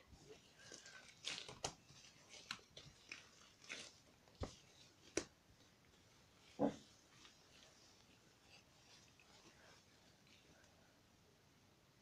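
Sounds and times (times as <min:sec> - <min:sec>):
slime squishing and crackling: 0:00.0 - 0:10.4.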